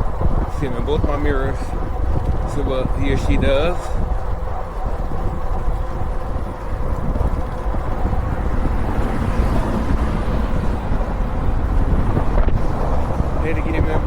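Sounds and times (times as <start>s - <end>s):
e-bike road noise: 0.0s - 14.0s
wind rushing over microphone: 0.0s - 14.0s.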